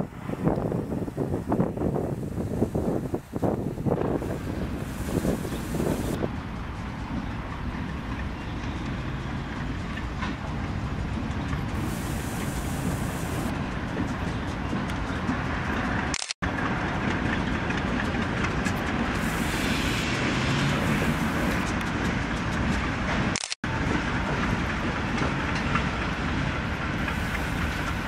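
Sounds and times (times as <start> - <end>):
diesel locomotive engines: 0.0 - 28.0
train wheels rumbling on rails: 0.0 - 28.0.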